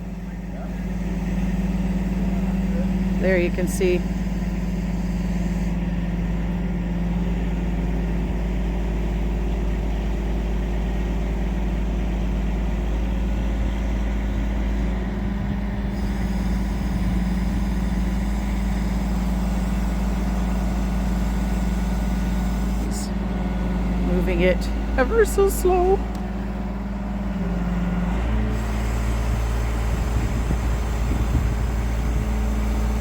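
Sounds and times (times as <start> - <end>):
crane diesel engine running: 0.0 - 33.0.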